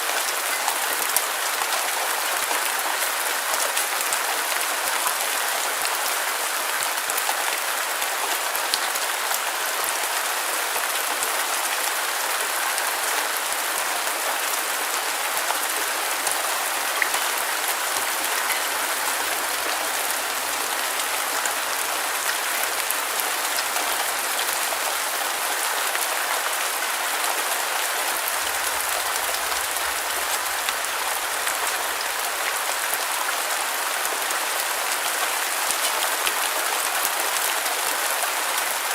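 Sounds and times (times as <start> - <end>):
steady rain pattering: 0.0 - 38.9.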